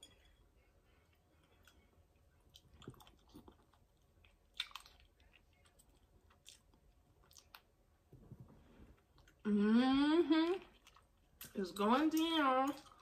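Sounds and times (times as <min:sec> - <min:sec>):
faint chewing and mouth clicks: 0:00.0 - 0:09.5, 0:10.5 - 0:13.0.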